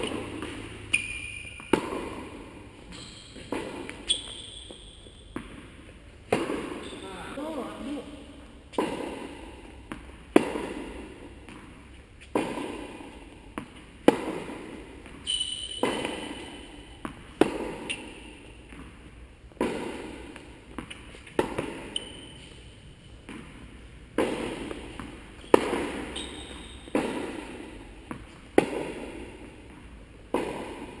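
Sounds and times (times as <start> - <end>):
racket hitting tennis ball: 0.0 - 7.5, 8.4 - 31.0
tennis ball bouncing: 0.0 - 31.0.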